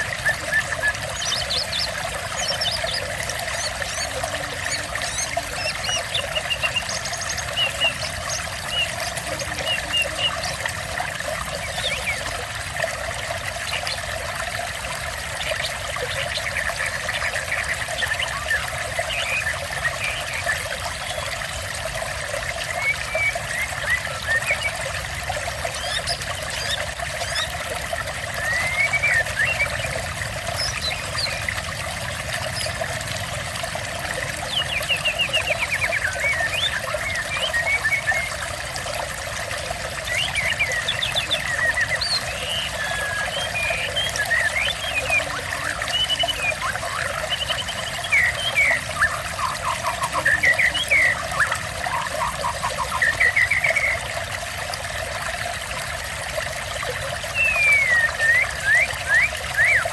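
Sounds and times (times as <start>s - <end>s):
water trickling and pouring: 0.0s - 59.9s.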